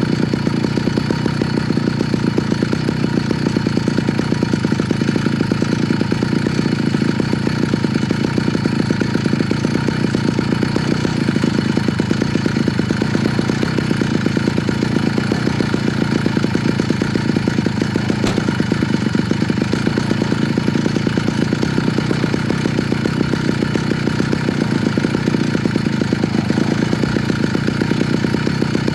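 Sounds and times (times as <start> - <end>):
motorized bicycle engine running: 0.0 - 28.9.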